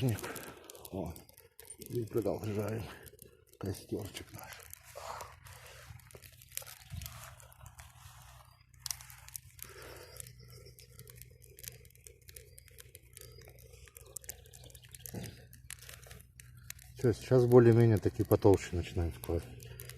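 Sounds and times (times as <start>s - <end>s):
campfire crackling: 0.0s - 19.9s
twigs crunching and snapping: 0.0s - 19.9s.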